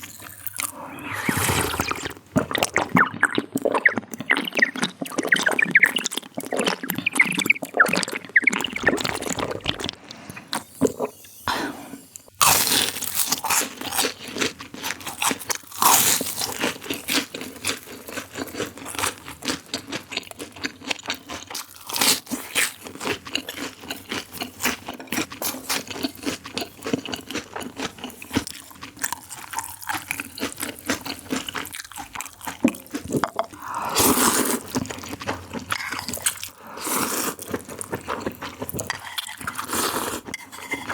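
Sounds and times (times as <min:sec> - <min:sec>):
crunchy food being chewed: 0:00.0 - 0:11.1, 0:12.4 - 0:40.9.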